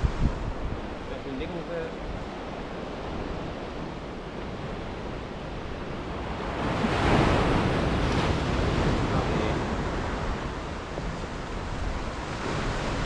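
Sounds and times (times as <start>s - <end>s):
sea surf washing on shore: 0.0s - 13.0s
wind buffeting microphone: 0.0s - 13.0s.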